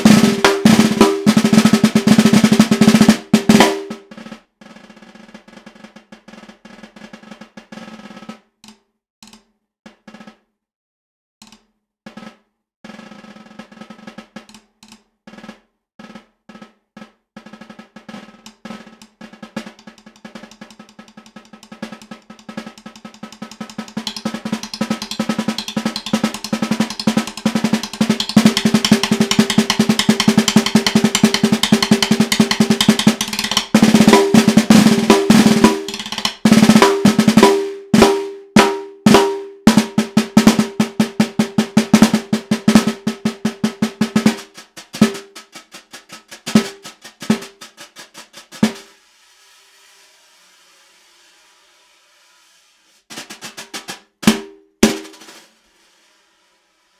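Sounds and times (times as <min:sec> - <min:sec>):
snare drum strokes: 0:00.0 - 0:08.3, 0:15.3 - 0:56.1.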